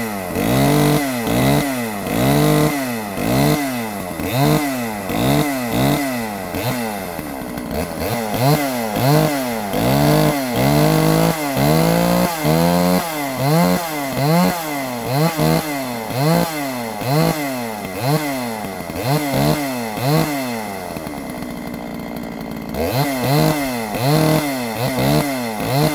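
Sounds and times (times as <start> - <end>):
chainsaw engine revving: 0.0 - 25.9.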